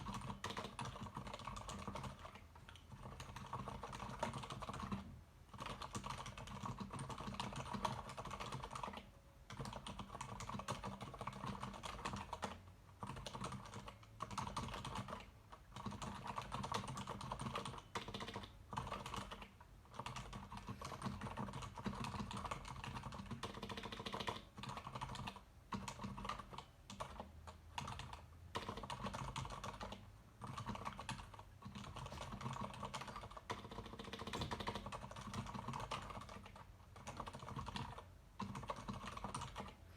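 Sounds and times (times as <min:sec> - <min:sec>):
soft keyboard typing: 0:00.0 - 0:39.9.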